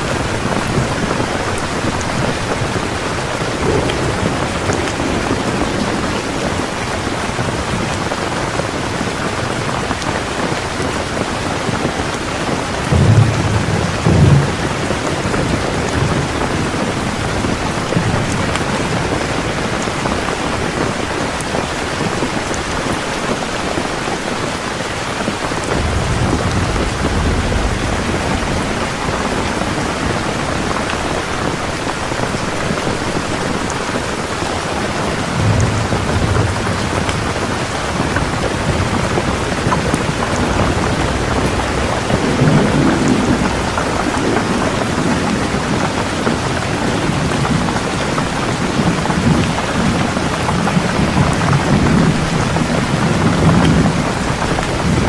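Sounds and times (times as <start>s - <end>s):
heavy rain falling: 0.0s - 55.0s
thunder rumbling: 0.0s - 55.0s.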